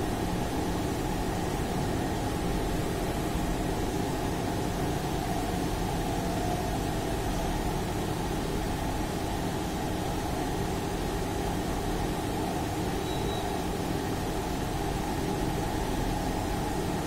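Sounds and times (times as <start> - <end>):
machinery hum and rumble: 0.0 - 17.0.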